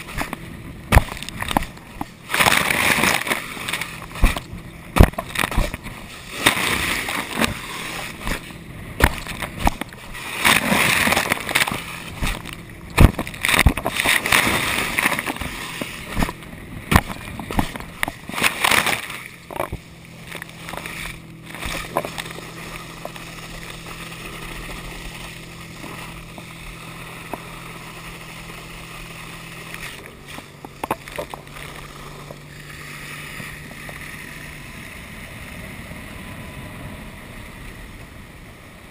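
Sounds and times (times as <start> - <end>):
boat engine drone: 0.0 - 38.9.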